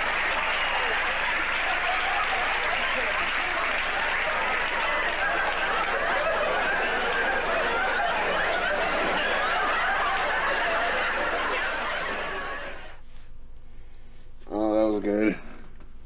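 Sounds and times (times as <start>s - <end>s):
studio audience laughing: 0.0s - 13.0s.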